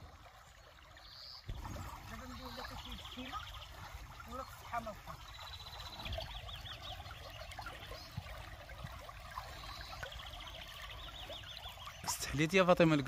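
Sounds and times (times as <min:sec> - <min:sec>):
water trickling in a stream: 0:00.0 - 0:13.0
small birds chirping: 0:00.6 - 0:13.0.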